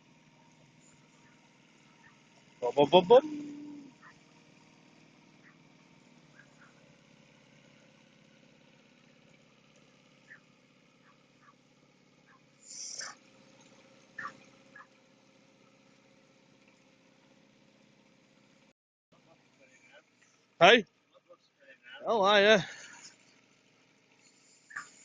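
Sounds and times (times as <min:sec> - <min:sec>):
outboard motor humming: 0:00.0 - 0:25.0.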